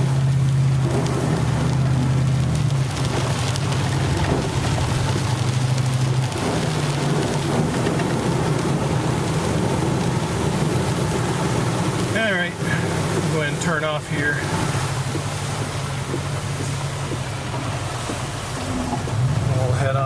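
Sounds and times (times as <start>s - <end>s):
rain pelting a truck: 0.0s - 20.0s
truck engine hum: 0.0s - 20.0s.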